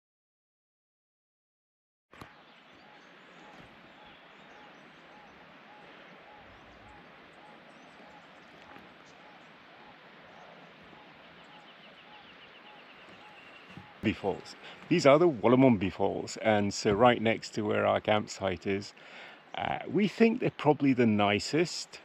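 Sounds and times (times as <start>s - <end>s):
outdoor bush ambience: 2.1s - 22.0s.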